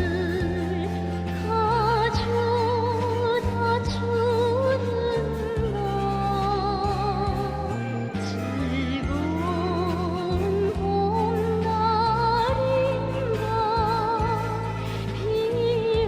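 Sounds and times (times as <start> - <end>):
pop music with vibrato melody: 0.0 - 16.0.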